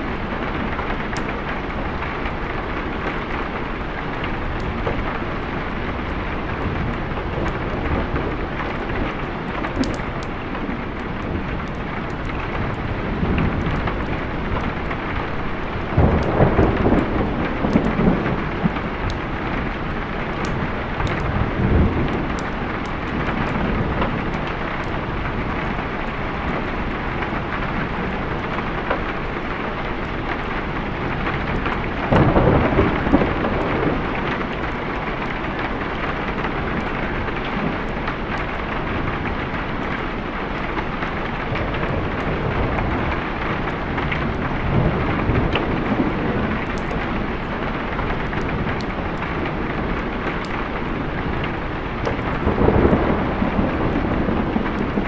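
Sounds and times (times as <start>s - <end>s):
steady rain: 0.0s - 55.0s
thunder rumbling: 0.0s - 55.0s.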